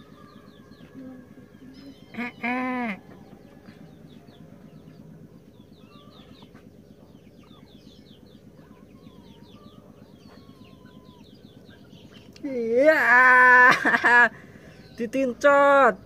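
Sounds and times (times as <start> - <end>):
low fast pulsing: 0.0 - 13.1
lower bird calls: 0.0 - 16.0
small birds chirping: 0.0 - 16.0.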